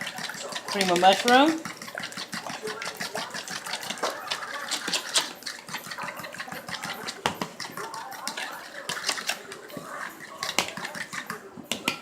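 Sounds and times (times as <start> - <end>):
utensil beating in a bowl: 0.0 - 12.0.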